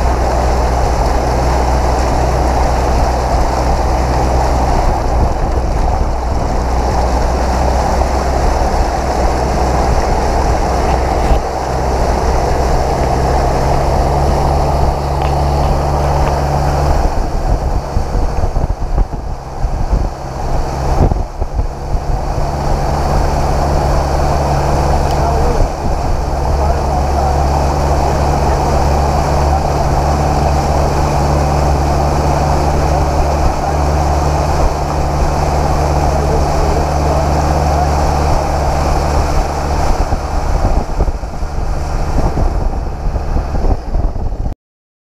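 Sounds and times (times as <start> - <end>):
water rushing and splashing: 0.0 - 44.5
low engine drone: 0.0 - 44.6.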